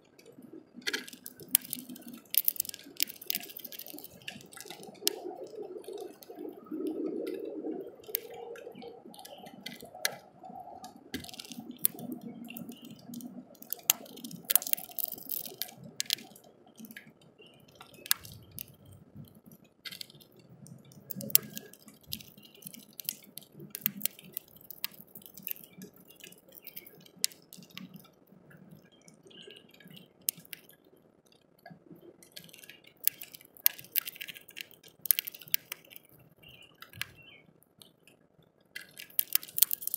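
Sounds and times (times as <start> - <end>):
raindrops tapping on plastic: 0.0 - 39.9.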